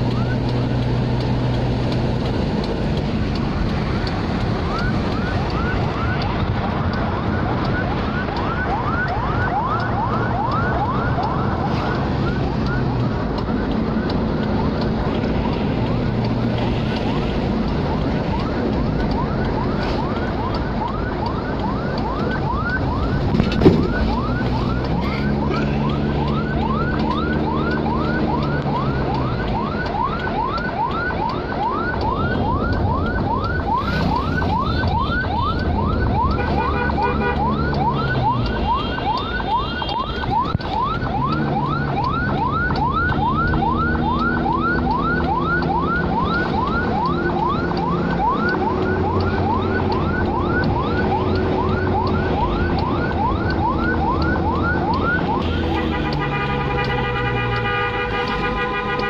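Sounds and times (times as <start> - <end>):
car road and engine noise: 0.0 - 59.0
fast yelping siren: 3.8 - 16.4, 17.1 - 59.0.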